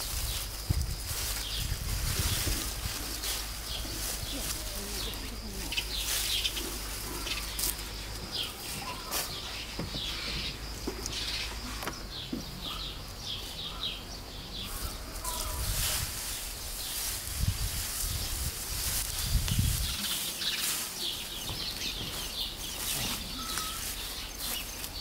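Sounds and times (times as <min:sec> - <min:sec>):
dry grass rustling: 0:00.0 - 0:25.0
leaves rustling: 0:00.0 - 0:25.0
small birds chirping: 0:00.0 - 0:25.0.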